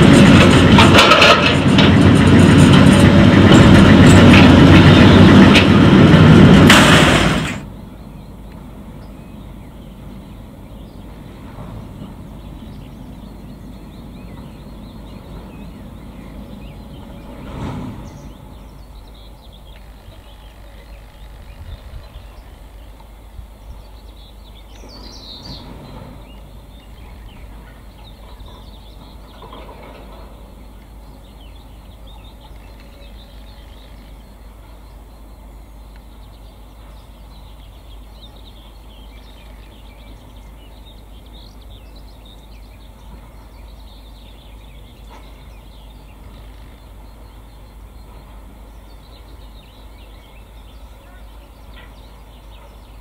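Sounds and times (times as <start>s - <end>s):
train running on track: 0.0s - 53.0s
birds chirping: 7.4s - 53.0s.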